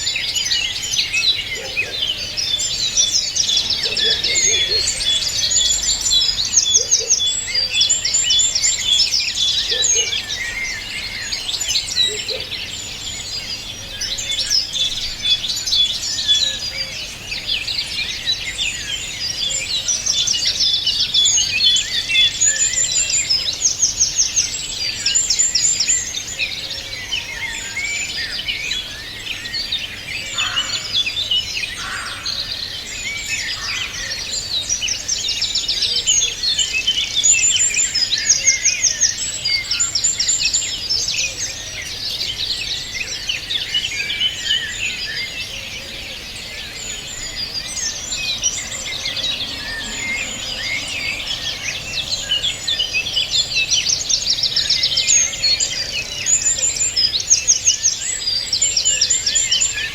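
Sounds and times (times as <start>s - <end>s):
songbirds chorus: 0.0s - 59.9s.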